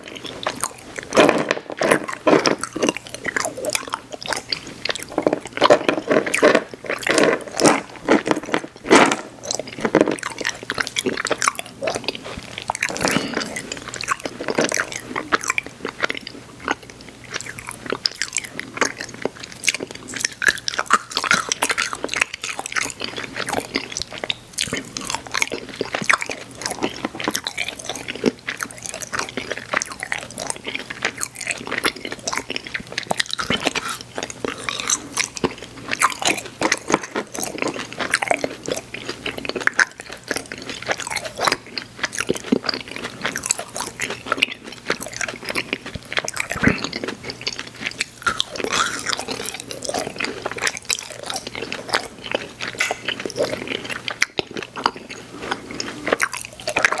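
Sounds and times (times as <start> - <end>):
mouth chewing candy: 0.0 - 57.0.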